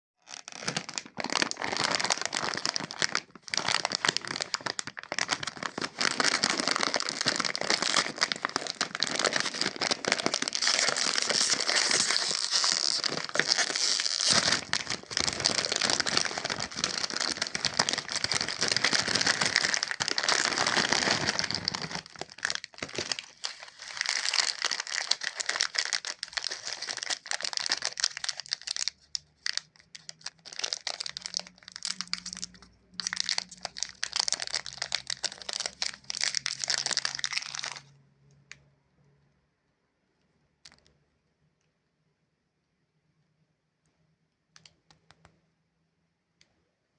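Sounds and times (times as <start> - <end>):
plastic wrappers crinkling: 0.2 - 37.9.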